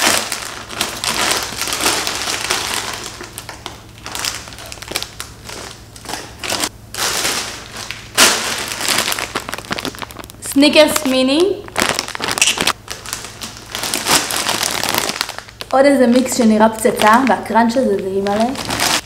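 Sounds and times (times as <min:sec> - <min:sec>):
plastic candy packaging crinkling: 0:00.0 - 0:19.0.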